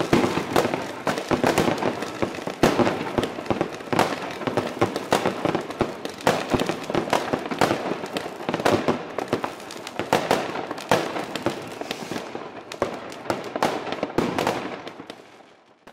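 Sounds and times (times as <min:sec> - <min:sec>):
fireworks banging: 0:00.0 - 0:15.3
firecrackers crackling: 0:00.0 - 0:15.9.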